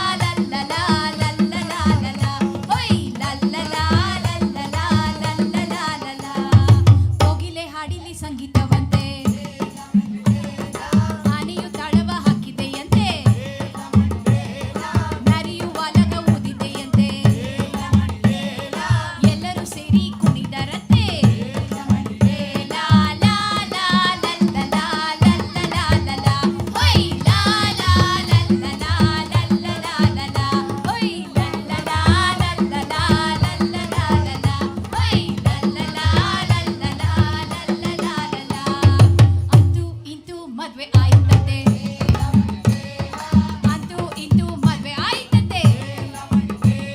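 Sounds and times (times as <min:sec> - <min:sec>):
hand drum rhythm: 0:00.0 - 0:40.0, 0:40.9 - 0:46.9.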